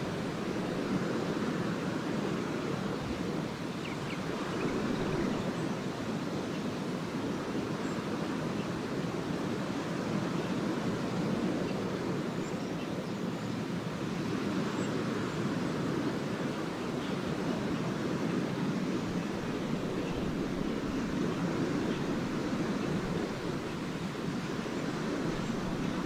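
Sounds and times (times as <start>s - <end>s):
small waves washing onto beach: 0.0s - 26.0s.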